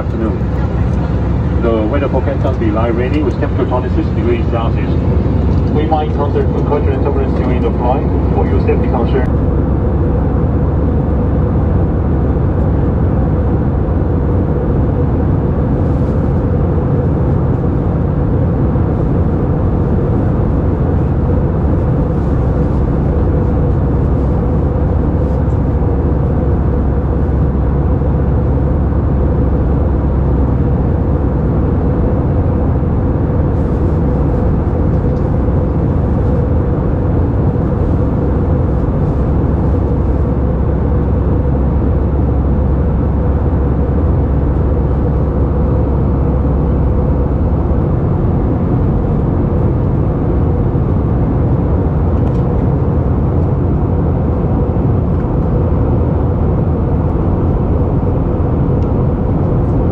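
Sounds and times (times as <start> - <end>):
airplane cabin noise: 0.0 - 59.9.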